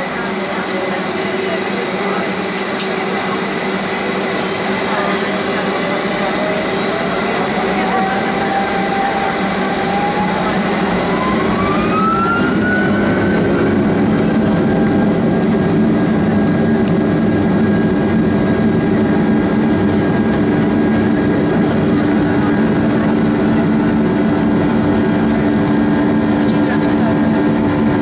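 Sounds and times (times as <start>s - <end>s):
deep engine rumble: 0.0s - 28.0s
jet engines whine: 0.0s - 28.0s.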